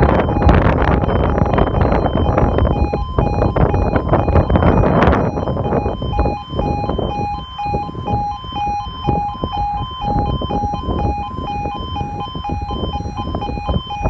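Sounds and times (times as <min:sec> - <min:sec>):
two-tone level crossing alarm: 0:00.0 - 0:14.0
wind rush on microphone: 0:00.0 - 0:14.0.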